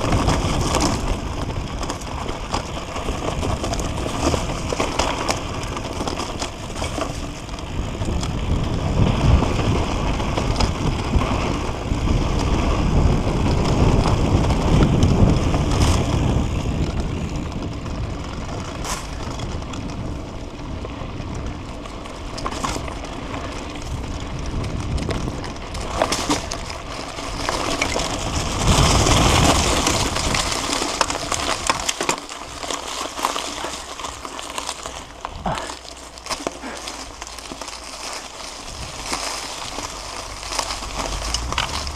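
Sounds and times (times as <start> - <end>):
wind buffeting microphone: 0.0 - 31.9, 38.4 - 41.9
bike rattling: 0.0 - 41.9
tyres crunching over dirt: 0.0 - 41.9.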